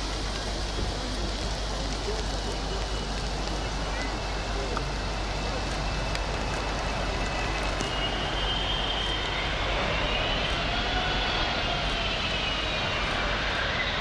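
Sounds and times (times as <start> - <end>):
high turbine whine: 0.0 - 14.0
jet engines roaring: 0.0 - 14.0.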